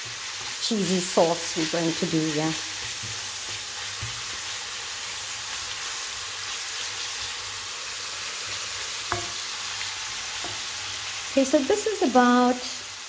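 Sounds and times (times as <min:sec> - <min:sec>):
bacon and onions sizzling in a pan: 0:00.0 - 0:13.0.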